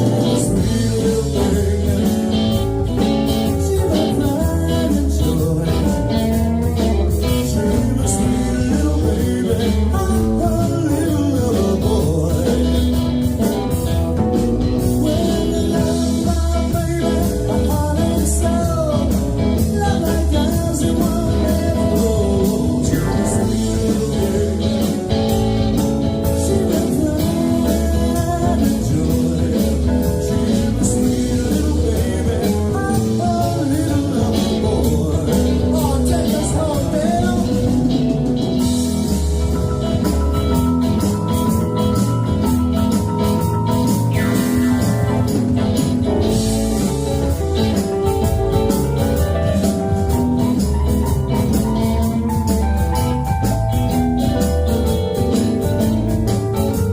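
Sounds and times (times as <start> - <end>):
person singing: 0.0 - 39.3, 42.9 - 53.4
drums: 0.0 - 56.9
guitar: 0.0 - 56.9
live blues-rock band: 0.0 - 56.9.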